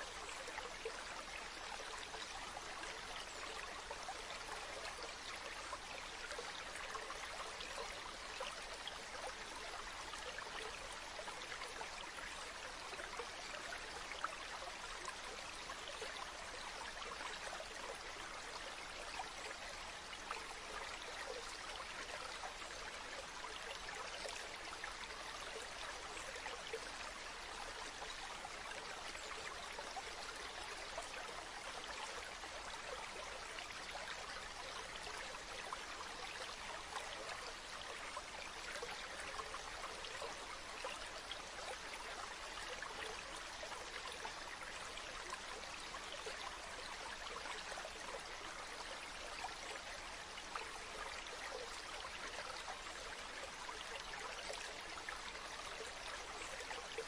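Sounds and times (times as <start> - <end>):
stream babbling: 0.0 - 57.0.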